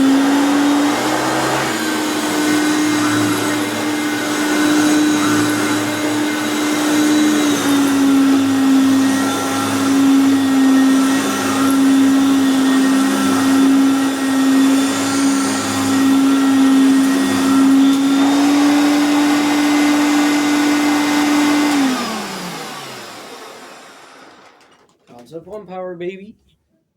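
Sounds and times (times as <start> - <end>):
vacuum cleaner running: 0.0 - 24.8.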